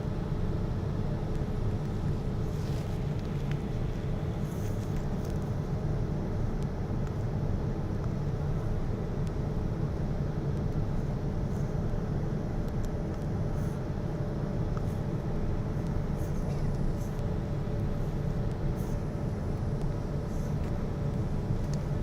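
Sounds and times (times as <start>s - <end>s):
airliner low rumble: 0.0s - 22.0s
faint constant hum: 0.0s - 22.0s.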